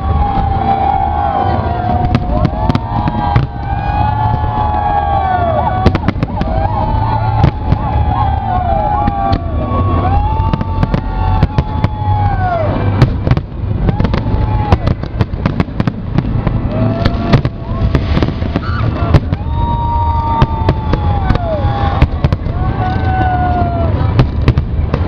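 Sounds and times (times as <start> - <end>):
firework whistling tones: 0.0 - 24.1
firework bangs and crackles: 0.0 - 25.0
low rumble of booms: 1.8 - 25.0.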